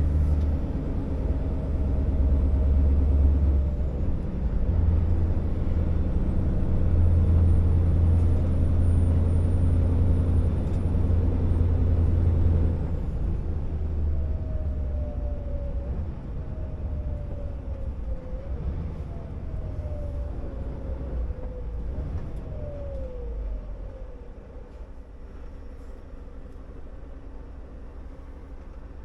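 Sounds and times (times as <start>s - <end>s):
diesel truck engine droning: 0.0s - 29.0s.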